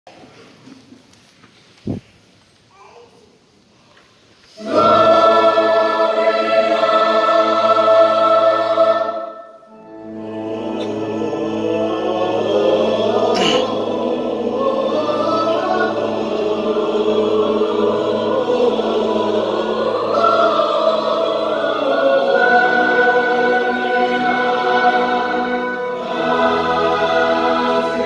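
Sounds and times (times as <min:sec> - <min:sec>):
choir singing: 0:04.5 - 0:28.0
orchestral strings: 0:04.6 - 0:28.0.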